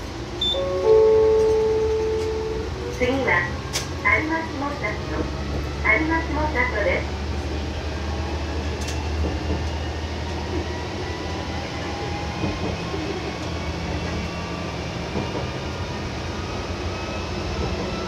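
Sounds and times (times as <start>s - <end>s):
railcar engine drone: 0.0s - 18.0s.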